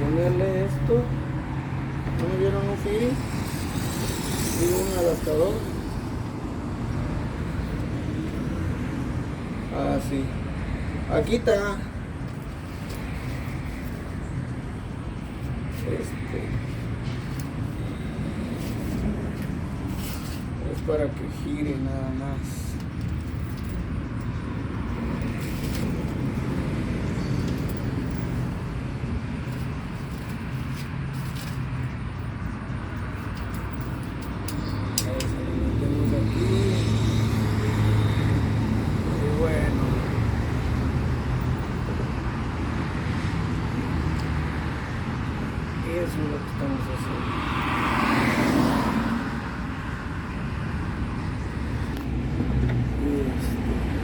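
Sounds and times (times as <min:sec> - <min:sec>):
low traffic rumble: 0:00.0 - 0:54.0
vehicle passing by: 0:00.0 - 0:54.0.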